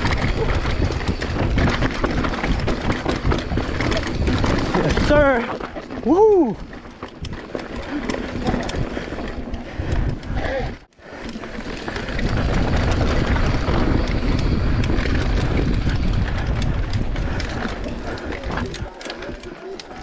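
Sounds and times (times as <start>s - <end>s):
wind buffeting microphone: 0.0s - 10.9s, 11.6s - 19.5s
bike clicking and rattling: 0.0s - 20.0s
bike tyres rumbling on dirt: 0.0s - 20.0s.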